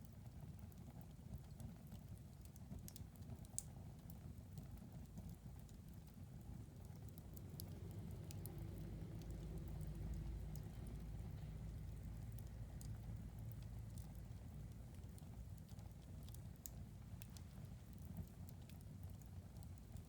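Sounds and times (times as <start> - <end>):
low rumble of flames: 0.0 - 20.0
fire crackling and popping: 0.1 - 20.0.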